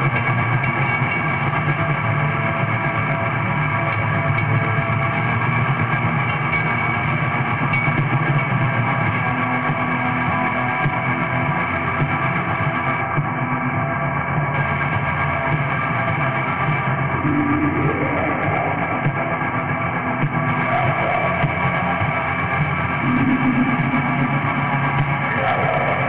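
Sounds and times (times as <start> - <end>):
black metal with distorted guitars: 0.0 - 26.0.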